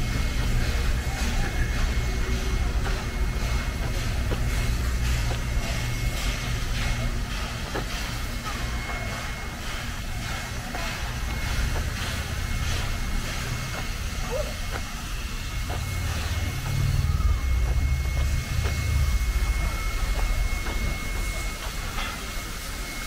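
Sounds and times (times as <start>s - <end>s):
train carriages rumbling on rails: 0.0s - 23.0s.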